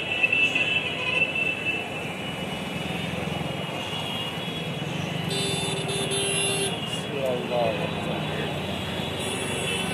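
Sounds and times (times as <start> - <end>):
road traffic with idling engines: 0.0 - 9.9.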